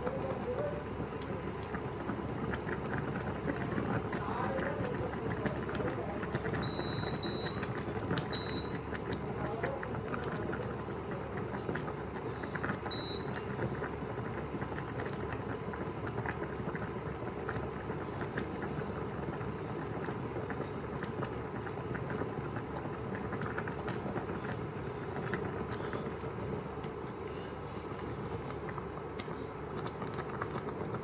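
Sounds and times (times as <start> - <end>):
water boiling in a pot: 0.0 - 31.0.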